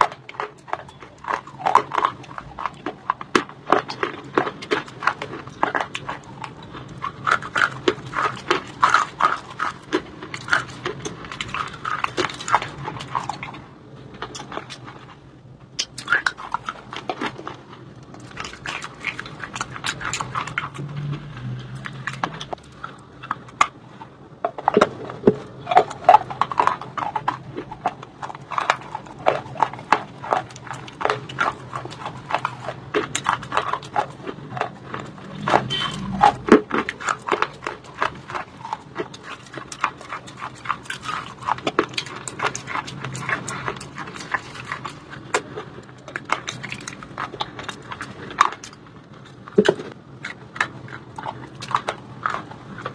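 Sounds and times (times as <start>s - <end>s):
stone crunching between teeth: 0.0s - 52.9s.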